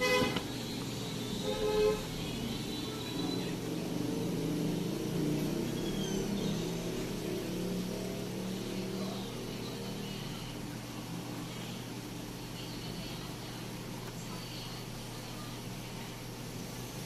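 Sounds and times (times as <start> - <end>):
steady low hum: 0.0 - 17.0
vehicle engine running: 0.0 - 17.0.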